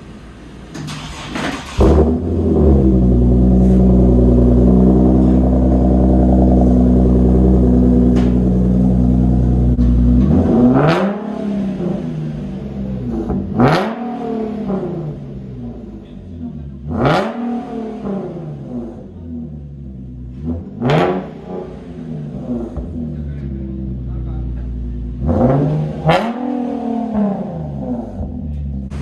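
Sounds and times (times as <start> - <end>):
car engine starting and idling: 0.0 - 29.0
car engine revving: 0.8 - 29.0.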